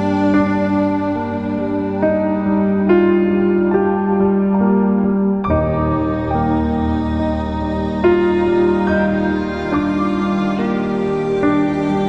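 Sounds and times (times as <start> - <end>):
background music of sustained tones: 0.0 - 12.0.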